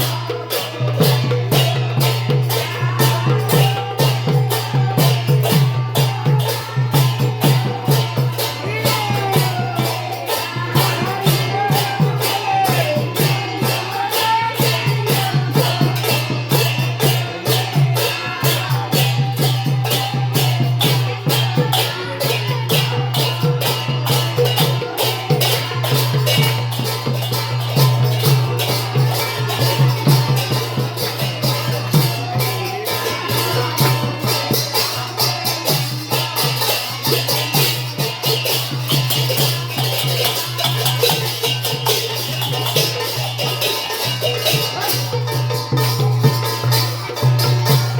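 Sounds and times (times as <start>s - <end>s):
loud percussion strikes: 0.0s - 47.9s
voices singing together: 0.0s - 47.9s.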